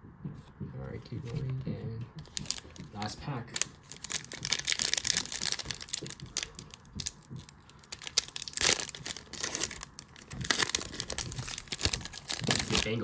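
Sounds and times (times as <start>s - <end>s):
foil wrapper crinkling and tearing: 2.2s - 13.0s.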